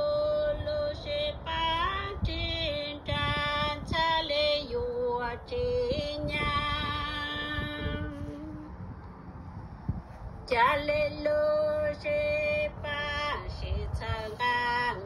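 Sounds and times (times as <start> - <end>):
woman singing: 0.0 - 8.7, 10.5 - 15.0.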